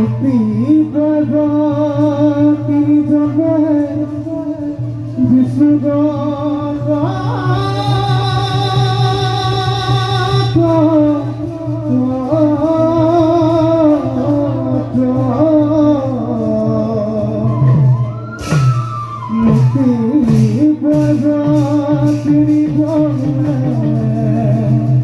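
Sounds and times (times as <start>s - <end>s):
instrumental accompaniment: 0.0s - 25.0s
person singing: 0.0s - 25.0s.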